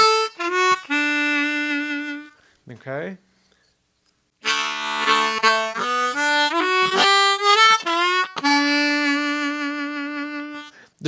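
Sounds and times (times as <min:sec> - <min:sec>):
harmonica playing: 0:00.0 - 0:02.6, 0:04.4 - 0:10.9.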